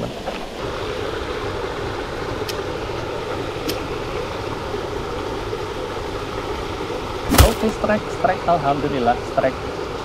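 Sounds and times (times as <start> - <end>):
running water in a stream: 0.0 - 10.0.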